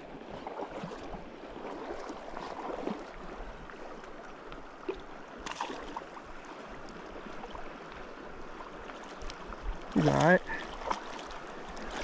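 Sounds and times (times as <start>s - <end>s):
river water rushing: 0.0s - 12.0s
small water splashes: 0.0s - 12.0s.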